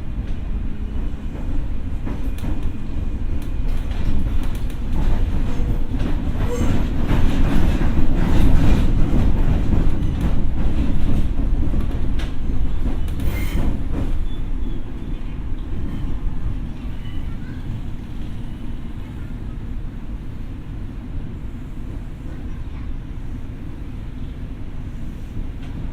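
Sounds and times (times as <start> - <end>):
train wheels rumbling on rail: 0.0 - 25.9.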